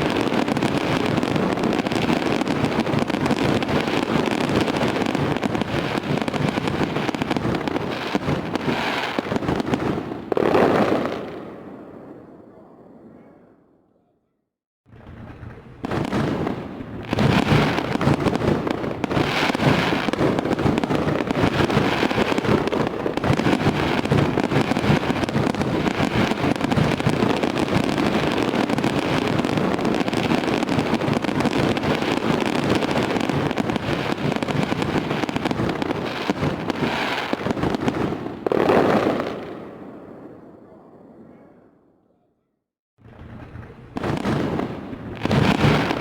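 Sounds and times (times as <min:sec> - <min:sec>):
fireworks bangs and crackling: 0:00.0 - 0:13.2, 0:14.9 - 0:41.3, 0:43.0 - 0:46.0.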